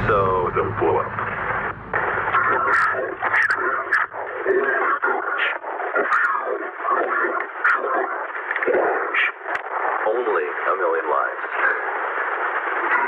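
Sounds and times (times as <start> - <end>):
distorted voice talking: 0.0 - 1.4, 2.0 - 12.0.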